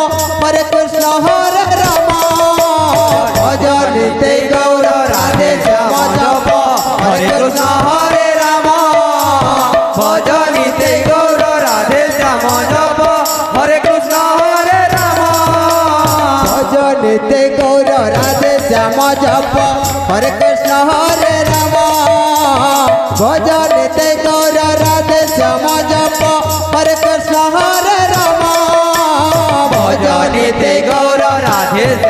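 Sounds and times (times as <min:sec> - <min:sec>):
jingling hand percussion: 0:00.0 - 0:32.0
khol drums: 0:00.0 - 0:32.0.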